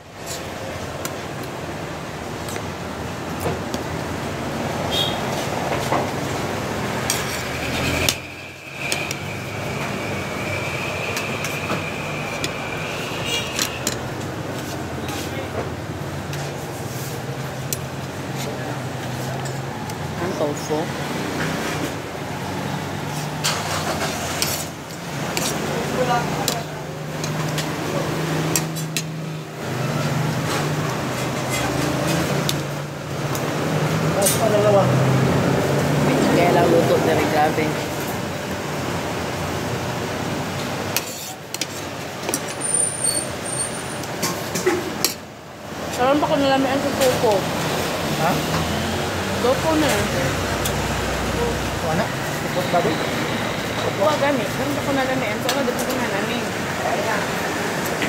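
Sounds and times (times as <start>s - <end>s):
steady background noise: 0.0s - 58.0s.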